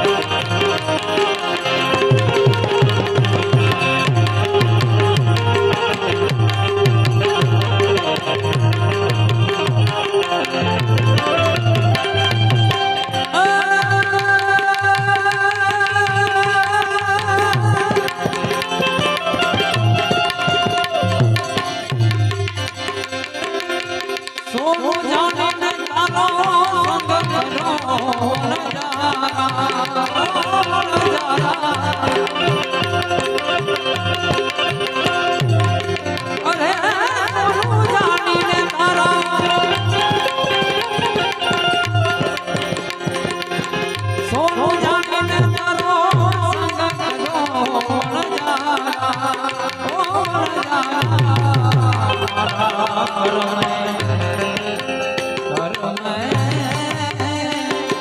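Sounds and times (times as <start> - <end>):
hand drum beat: 0.0 - 58.0
ornamented melody instrument: 0.0 - 58.0.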